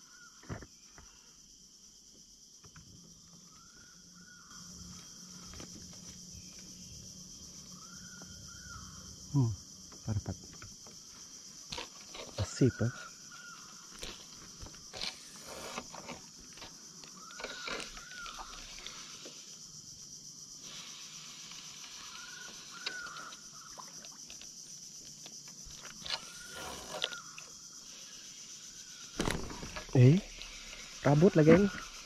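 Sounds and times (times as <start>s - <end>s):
high insect chorus: 0.0s - 32.0s.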